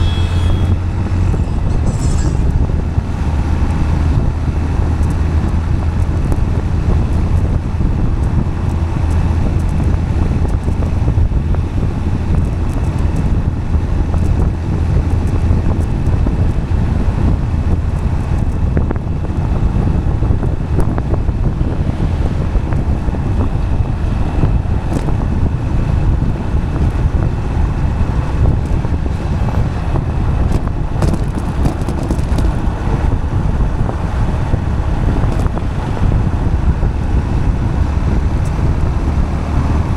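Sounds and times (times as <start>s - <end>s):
tyres rolling on asphalt: 0.0s - 39.9s
wind buffeting microphone: 0.0s - 39.9s.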